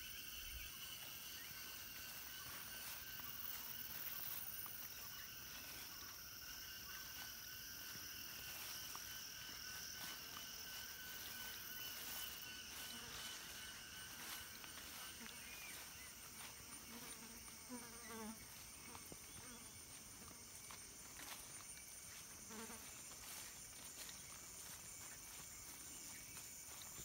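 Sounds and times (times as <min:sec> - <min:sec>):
insects chirring shrill drone: 0:00.0 - 0:27.0.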